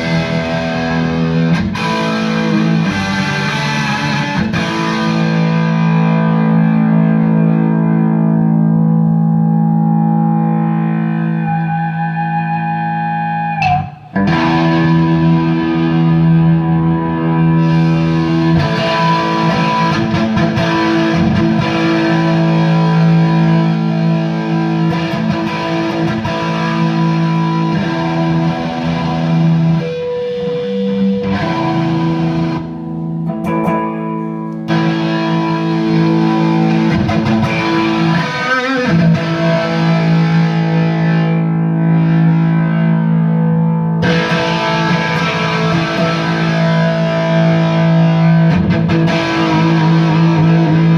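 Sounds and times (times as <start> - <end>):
distorted electric guitar chords: 0.0 - 50.9.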